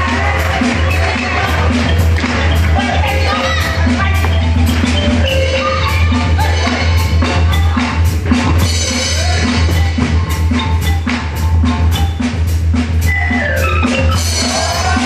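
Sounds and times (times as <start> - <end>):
circus band music: 0.0 - 15.0
low bass: 0.0 - 15.0
steady drum beat: 0.0 - 15.0
sliding melody line: 0.1 - 15.0.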